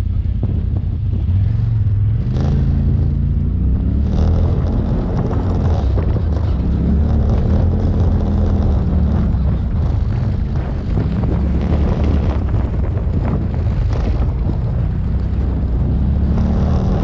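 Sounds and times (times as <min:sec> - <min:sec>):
off-road vehicle engine: 0:00.0 - 0:17.0
vehicle rumbling and rattling: 0:00.0 - 0:17.0.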